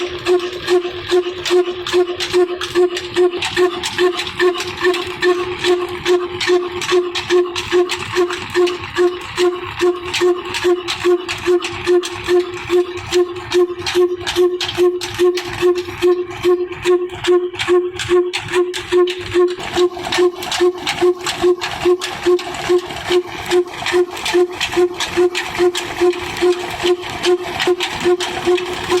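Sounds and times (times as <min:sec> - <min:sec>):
slow diesel engine running: 0:00.0 - 0:29.0.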